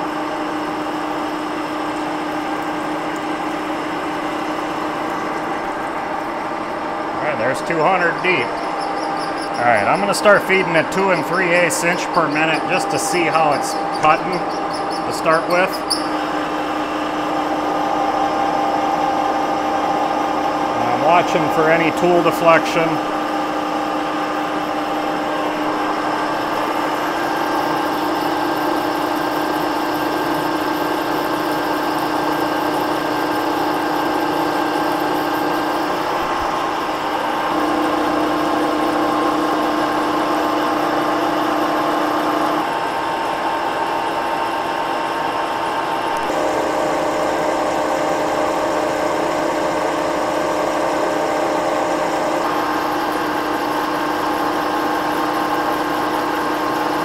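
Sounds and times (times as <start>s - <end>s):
milling machine humming: 0.0s - 57.0s.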